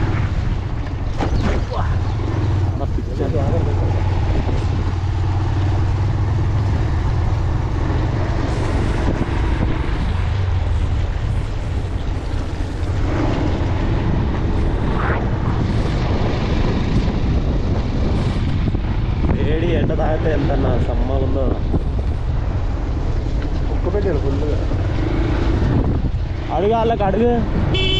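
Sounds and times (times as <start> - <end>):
wind rushing: 0.0 - 27.8
road noise: 0.0 - 27.9.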